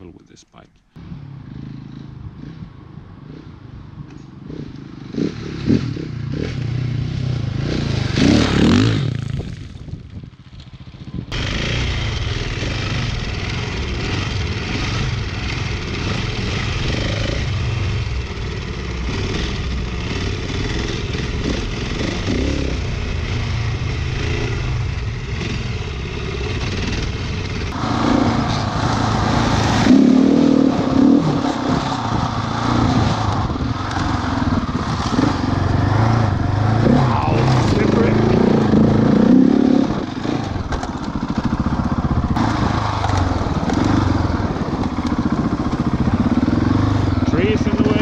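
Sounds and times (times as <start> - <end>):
motorcycle engine passing by: 1.0 - 48.0
motorcycle engine under load: 4.0 - 48.0
riding noise: 4.4 - 48.0.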